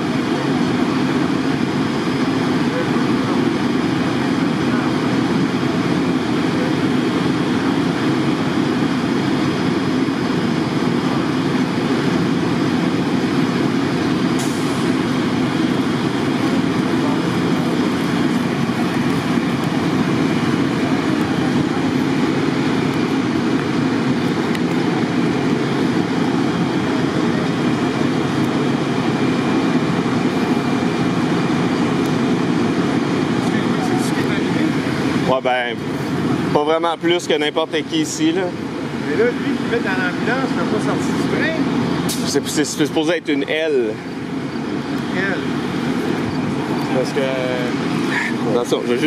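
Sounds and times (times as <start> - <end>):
idling heavy vehicles rumble: 0.0 - 49.0.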